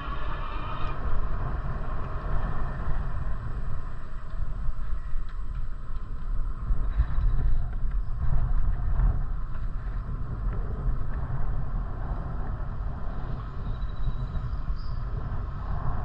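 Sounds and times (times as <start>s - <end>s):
bicycle road noise: 0.0s - 16.0s
wind rumble on microphone: 0.0s - 16.0s.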